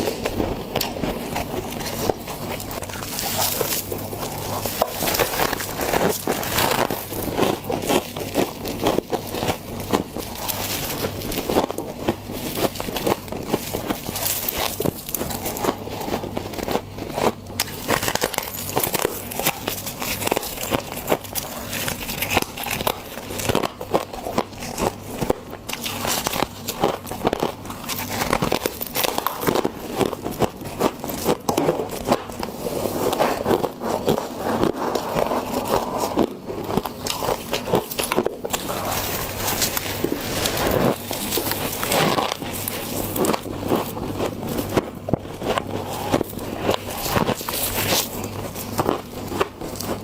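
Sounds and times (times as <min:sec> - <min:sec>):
crunchy chewing of frost: 0:00.0 - 0:50.0.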